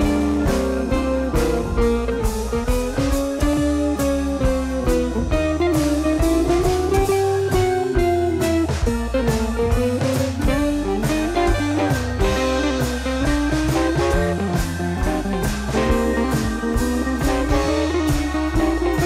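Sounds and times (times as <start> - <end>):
guitar melody: 0.0 - 19.0
steady drum beat: 0.0 - 19.0.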